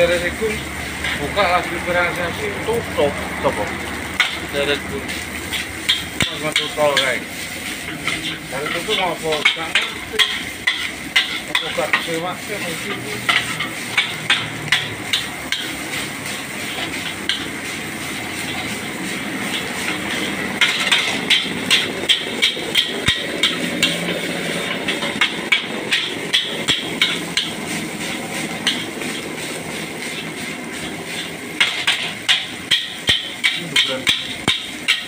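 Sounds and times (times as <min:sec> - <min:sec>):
food frying hiss: 0:00.0 - 0:35.0
gas burner: 0:00.0 - 0:35.0
metal spatula scraping a wok: 0:00.3 - 0:01.4, 0:04.0 - 0:35.0.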